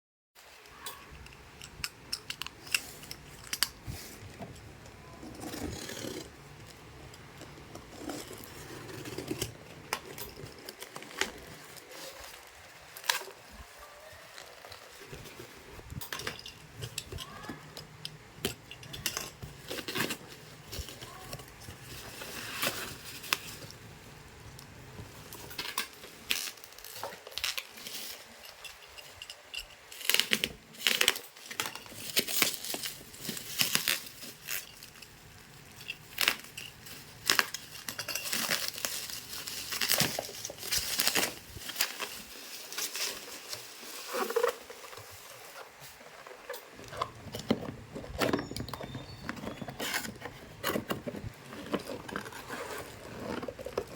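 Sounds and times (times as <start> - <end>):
packaging crinkling and rustling: 2.1 - 53.9.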